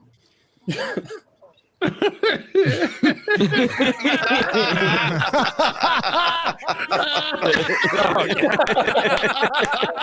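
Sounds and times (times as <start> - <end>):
people snickering and chuckling: 1.8 - 10.0.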